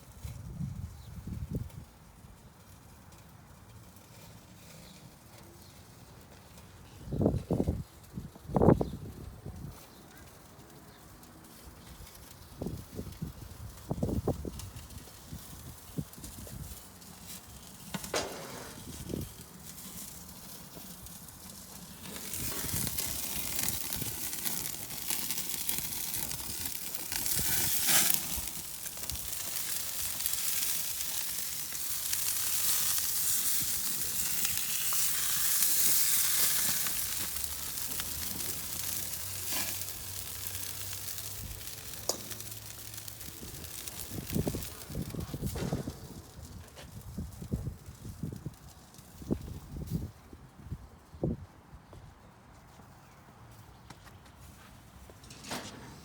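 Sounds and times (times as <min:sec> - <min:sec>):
chicken sizzling on a grill: 0:00.0 - 0:50.1.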